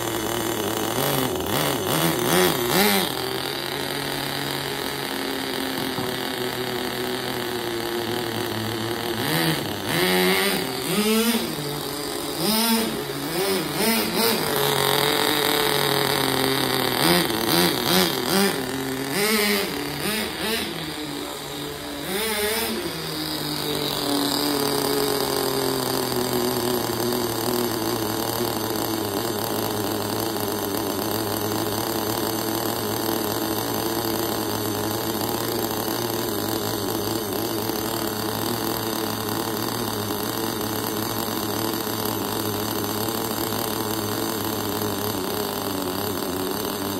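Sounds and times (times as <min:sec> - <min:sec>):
model car engine revving: 0:00.0 - 0:46.9.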